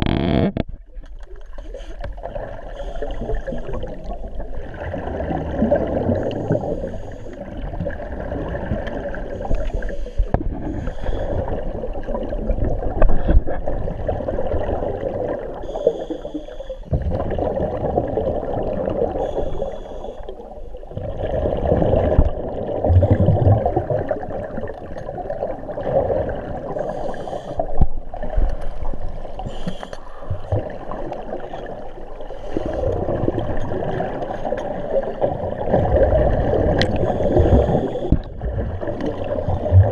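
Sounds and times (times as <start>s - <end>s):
air bubbles gurgling underwater: 2.1s - 16.0s, 16.9s - 19.7s, 20.5s - 39.9s.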